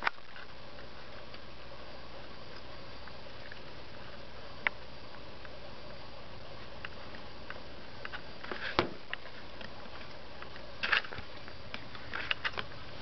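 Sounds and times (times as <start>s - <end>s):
microphone hiss: 0.0s - 13.0s.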